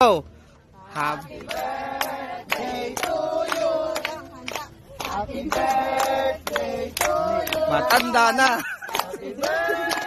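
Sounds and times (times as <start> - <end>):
group singing in unison: 0.7 - 10.0
people clapping: 1.0 - 10.0.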